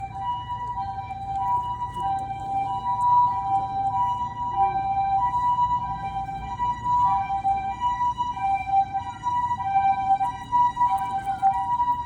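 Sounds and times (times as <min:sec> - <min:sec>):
ambulance two-tone siren: 0:00.0 - 0:12.0.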